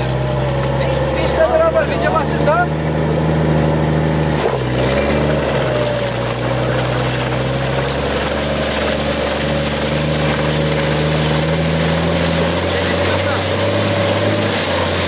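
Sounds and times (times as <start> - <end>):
off-road vehicle engine under load: 0.0 - 15.0
wheels spinning in deep snow: 0.0 - 15.0.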